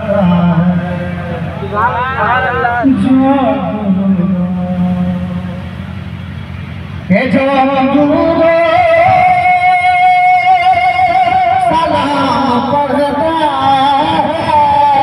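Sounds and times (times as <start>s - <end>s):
man singing into a microphone: 0.0s - 5.6s, 7.1s - 15.0s.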